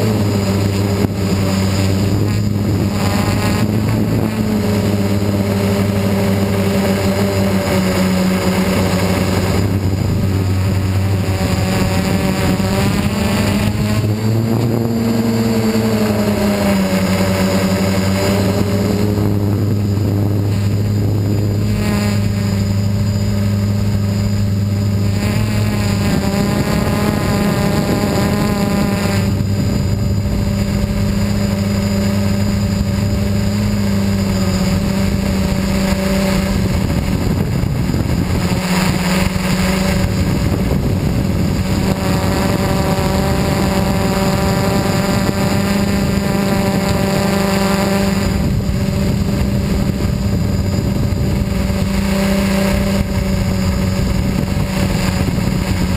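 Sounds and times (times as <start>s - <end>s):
drone motors and propellers whining: 0.0s - 55.9s.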